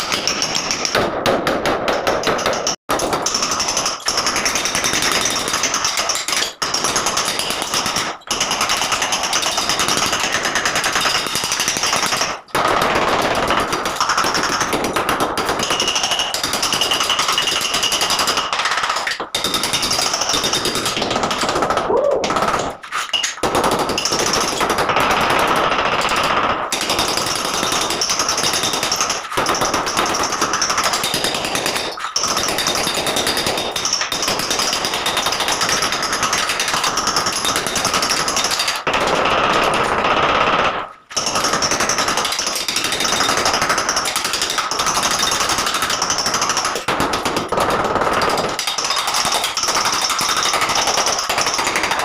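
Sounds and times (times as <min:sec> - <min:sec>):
demolition hammer chiselling tiles: 0:00.0 - 0:52.0.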